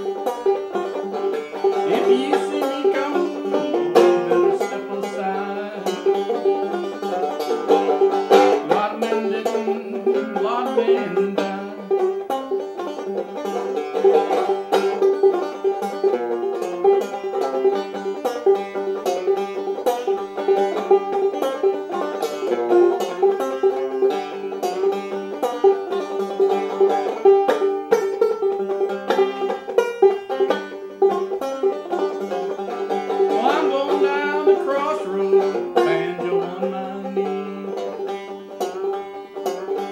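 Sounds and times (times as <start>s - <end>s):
banjo playing: 0.0s - 39.9s.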